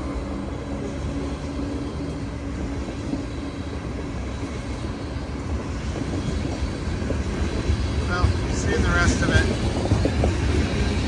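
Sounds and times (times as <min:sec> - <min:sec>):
coal train rumbling past: 0:00.0 - 0:11.0.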